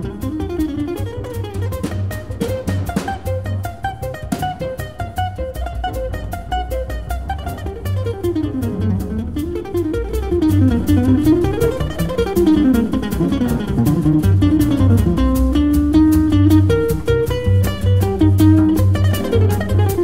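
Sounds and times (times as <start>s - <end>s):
plucked guitar runs: 0.0s - 20.0s
steady low beat: 0.0s - 20.0s.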